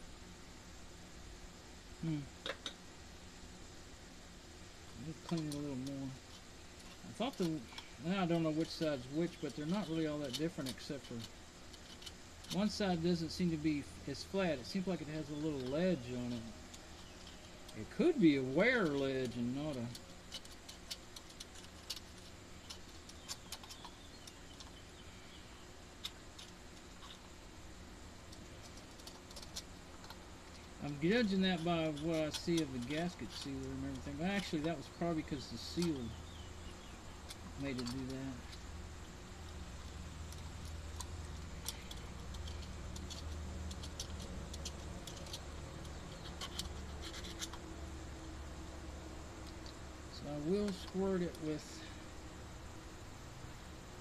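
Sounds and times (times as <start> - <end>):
light clicks of small metal parts: 4.9 - 27.4, 28.2 - 48.3, 49.3 - 52.2.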